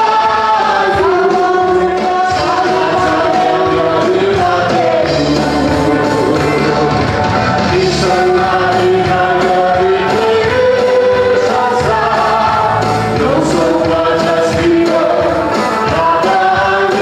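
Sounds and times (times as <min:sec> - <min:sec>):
amplified instrumental accompaniment: 0:00.0 - 0:17.0
group singing gospel song: 0:00.0 - 0:17.0.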